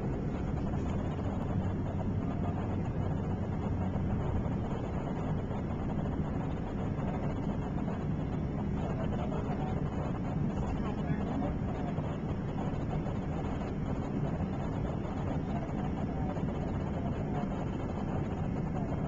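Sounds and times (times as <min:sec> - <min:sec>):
engine and tyre rumble: 0:00.0 - 0:19.0
wind noise: 0:00.0 - 0:19.0.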